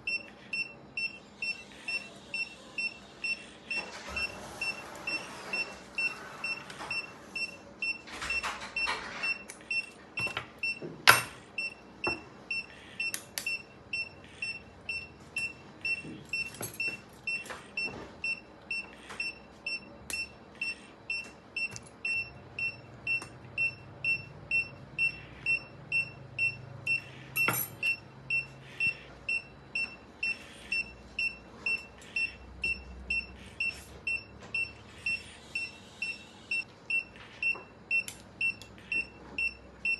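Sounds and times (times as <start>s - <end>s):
monitor beeping: 0.0s - 39.9s.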